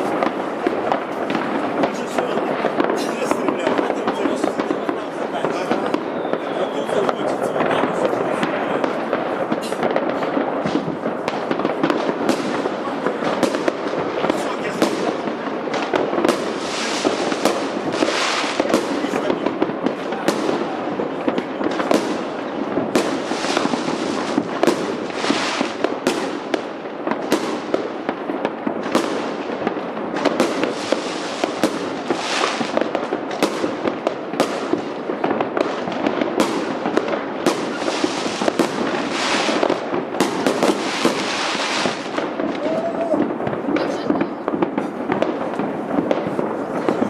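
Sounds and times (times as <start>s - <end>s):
fireworks bangs: 0.0s - 47.0s
fireworks crackling: 0.0s - 47.0s.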